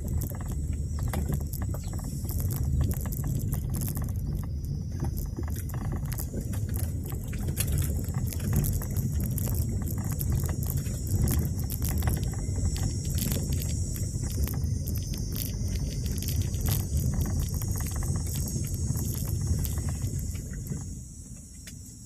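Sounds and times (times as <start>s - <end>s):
car rumble on dirt track: 0.0s - 21.4s.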